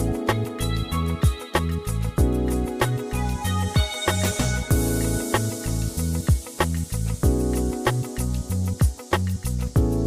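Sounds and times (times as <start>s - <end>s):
music with bass and drums: 0.0s - 10.0s.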